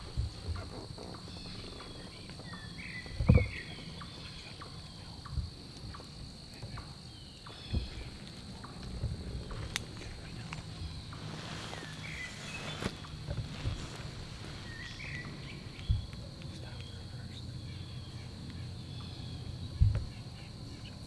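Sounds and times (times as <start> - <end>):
insect hum: 0.0 - 21.0.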